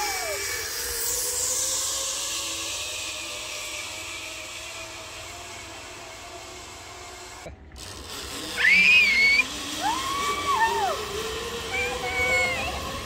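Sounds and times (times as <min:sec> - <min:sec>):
zipline pulleys hissing on cable: 0:00.0 - 0:13.0.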